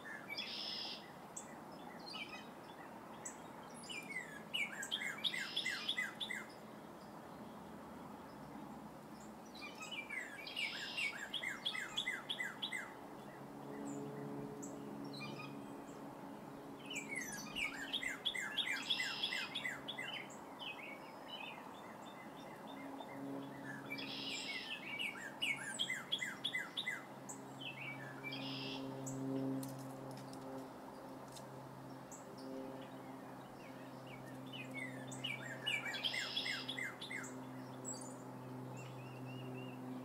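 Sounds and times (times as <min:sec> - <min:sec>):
songbird singing rapid chirps: 0:00.0 - 0:40.0.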